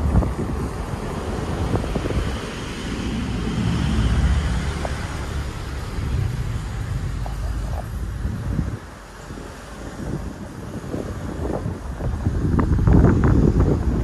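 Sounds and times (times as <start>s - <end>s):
car road noise rumble: 0.0s - 14.0s
wind buffeting microphone: 0.0s - 14.0s.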